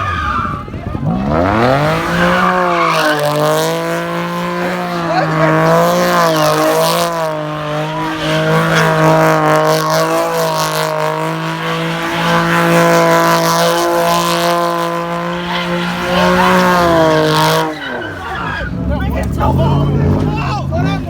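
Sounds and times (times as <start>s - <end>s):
car engine at high revs: 0.0s - 21.0s
tyres screeching: 0.0s - 21.0s.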